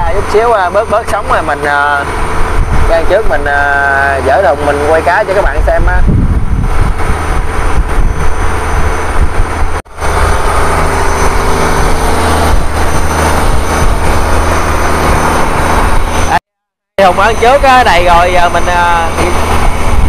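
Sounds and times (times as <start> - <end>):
boat engine running: 0.0 - 16.4, 17.0 - 20.0
rushing wind and water: 0.0 - 16.4, 17.0 - 20.0.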